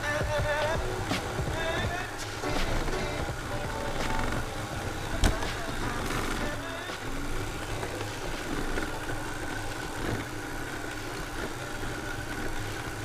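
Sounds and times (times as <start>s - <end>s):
robot vacuum running: 0.0s - 13.0s.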